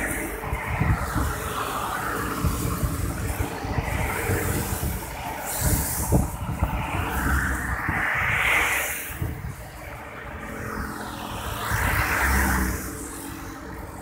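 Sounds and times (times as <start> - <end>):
passing traffic: 0.0 - 14.0
road noise inside moving vehicle: 0.0 - 14.0.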